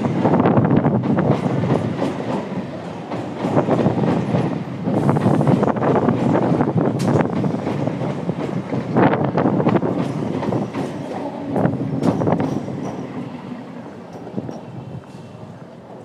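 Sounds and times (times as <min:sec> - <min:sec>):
train wheel rumble: 0:00.0 - 0:16.0
wheels clanking over rail joints: 0:00.9 - 0:15.8.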